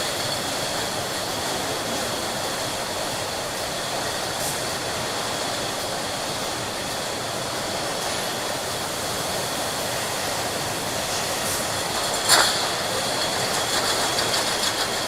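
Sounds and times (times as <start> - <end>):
production line machine noise: 0.0 - 15.0.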